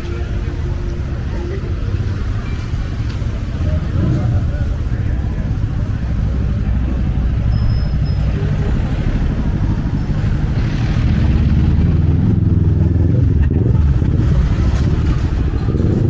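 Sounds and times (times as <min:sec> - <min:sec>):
car engines passing: 0:00.0 - 0:16.0
motorbike engines passing: 0:00.0 - 0:16.0.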